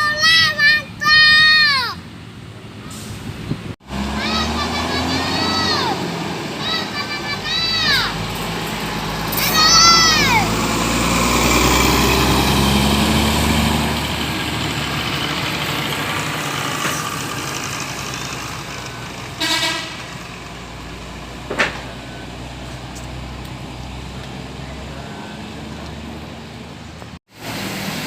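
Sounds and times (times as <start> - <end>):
bus passing by: 0.0 - 28.0.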